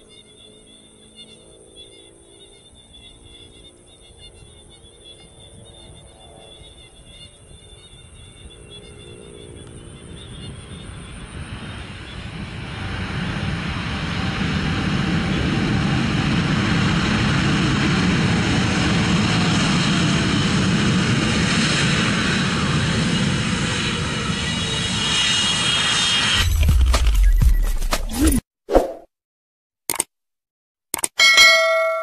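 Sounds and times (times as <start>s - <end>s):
jet engines running: 0.0s - 27.2s.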